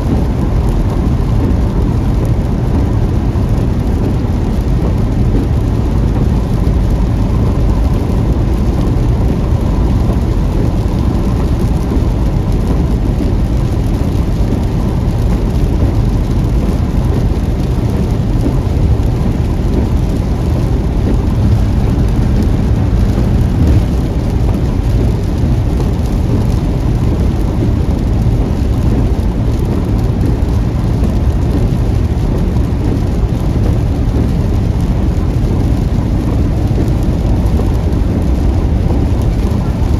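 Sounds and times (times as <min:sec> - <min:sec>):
rain hissing: 0:00.0 - 0:39.9
road and engine rumble: 0:00.0 - 0:39.9.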